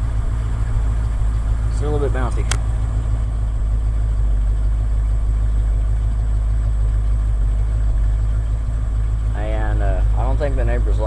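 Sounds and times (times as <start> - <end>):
rough engine idling: 0.0 - 11.0.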